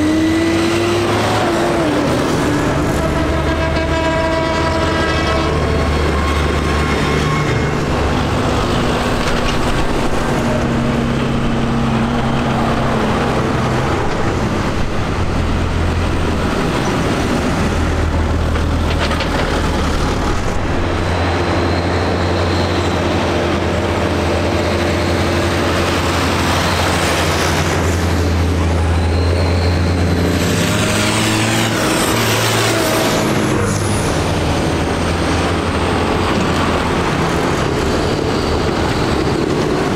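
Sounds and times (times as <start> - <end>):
tractors driving past: 0.0 - 39.9.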